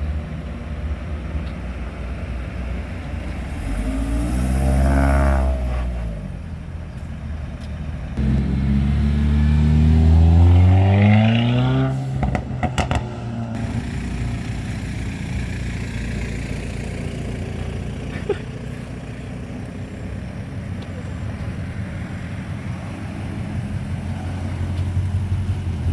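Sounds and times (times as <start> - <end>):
car engine accelerating: 2.2 - 25.9.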